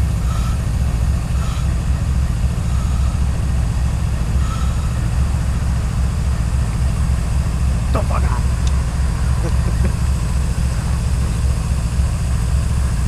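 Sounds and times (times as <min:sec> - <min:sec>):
locomotive engines rumbling: 0:00.0 - 0:13.0.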